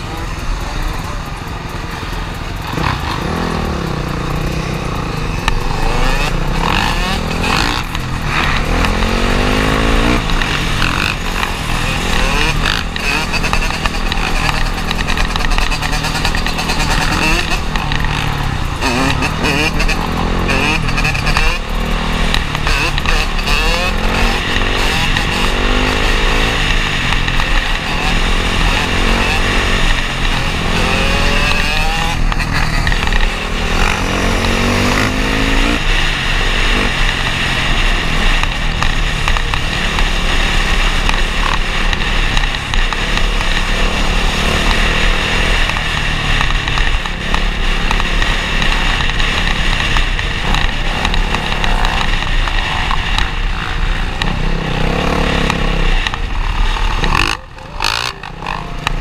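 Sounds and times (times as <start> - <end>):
dirt bike engines: 0.0 - 59.0.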